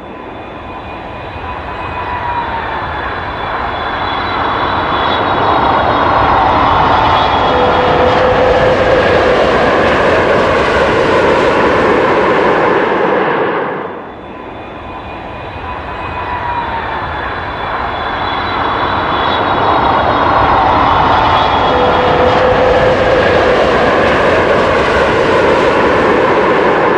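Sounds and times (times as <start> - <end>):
airplane turbine engines roaring: 0.0 - 26.9.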